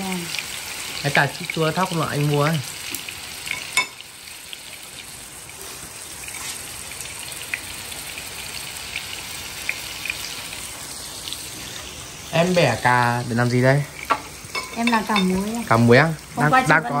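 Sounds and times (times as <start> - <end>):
oil popping and crackling: 0.0 - 17.0
tofu sizzling in hot oil: 0.0 - 17.0.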